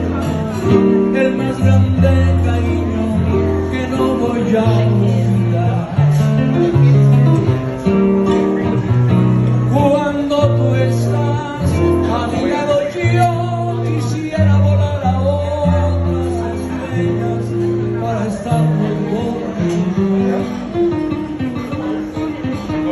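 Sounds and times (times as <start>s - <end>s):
acoustic guitar plucked notes: 0.0s - 22.9s
man singing into a microphone: 0.0s - 22.9s.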